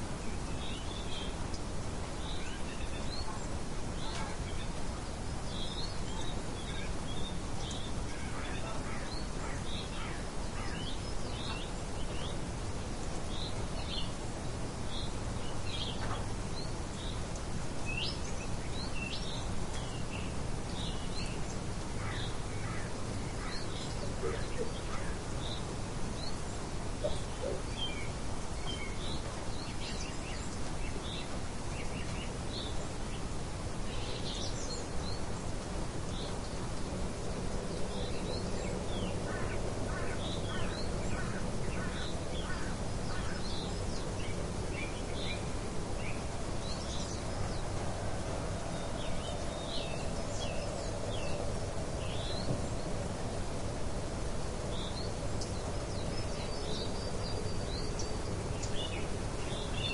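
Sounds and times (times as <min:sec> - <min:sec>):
light wind: 0:00.0 - 0:59.9
small birds chirping: 0:00.0 - 0:59.9.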